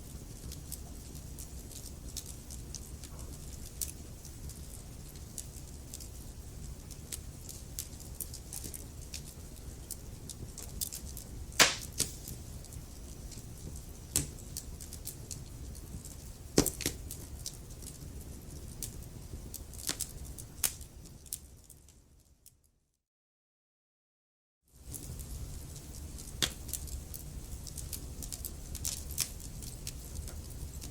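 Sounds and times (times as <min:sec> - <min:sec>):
low rumble of flames: 0:00.0 - 0:22.2, 0:24.8 - 0:30.9
fire crackles and pops: 0:00.0 - 0:22.6, 0:24.8 - 0:30.9.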